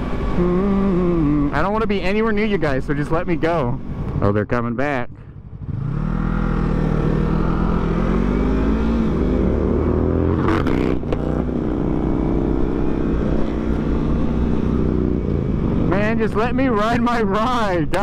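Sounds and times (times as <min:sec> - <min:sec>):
motorcycle engine accelerating: 0:00.0 - 0:17.6.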